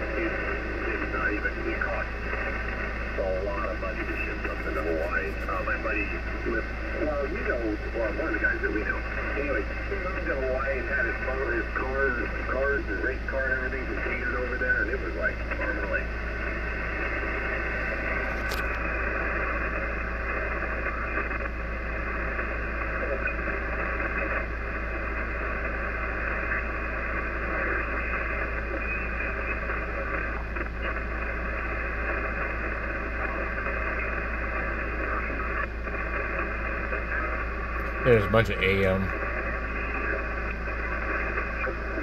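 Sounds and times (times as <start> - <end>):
faint garbled radio signals: 0.0 - 42.0
radio static hiss: 0.0 - 42.0.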